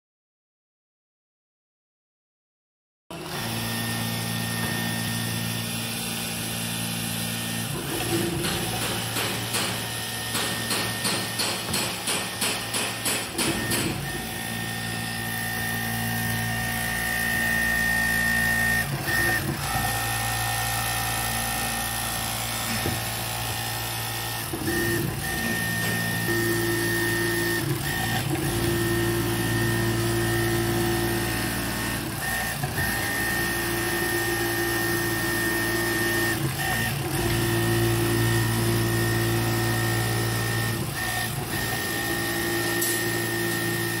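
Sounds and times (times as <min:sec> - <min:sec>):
motor hum with high whine: 0:03.1 - 0:44.0.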